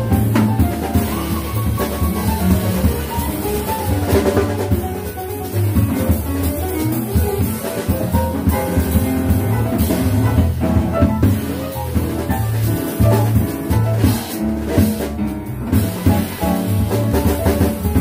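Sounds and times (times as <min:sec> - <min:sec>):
double bass low notes: 0:00.0 - 0:18.0
drum kit cymbals and drums: 0:00.0 - 0:18.0
piano: 0:00.0 - 0:18.0.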